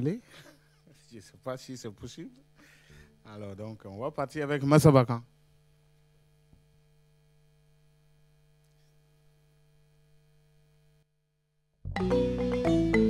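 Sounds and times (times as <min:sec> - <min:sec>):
faint electrical mains hum: 0:00.0 - 0:11.5.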